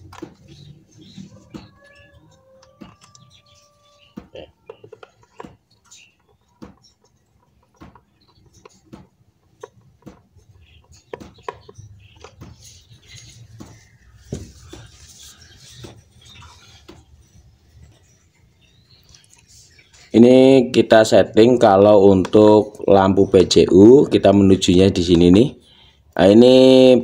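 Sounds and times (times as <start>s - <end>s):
hands working wires into terminals: 0.0s - 23.3s.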